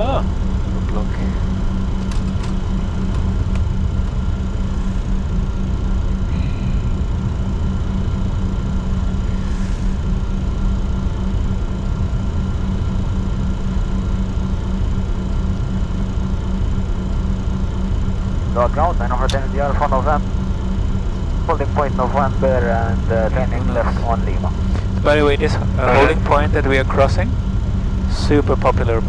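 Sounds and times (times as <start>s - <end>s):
jet cockpit rumble and hum: 0.0s - 29.0s.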